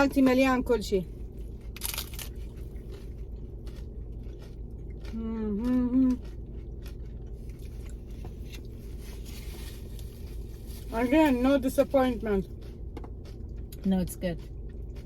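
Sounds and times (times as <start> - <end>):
crackling and chewing: 0.0 - 15.0.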